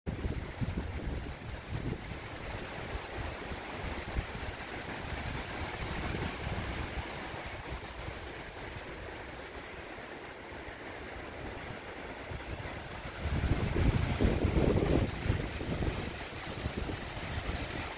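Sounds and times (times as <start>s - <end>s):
wind buffeting microphone: 0.1s - 17.9s
wind rustling leaves: 0.1s - 17.9s.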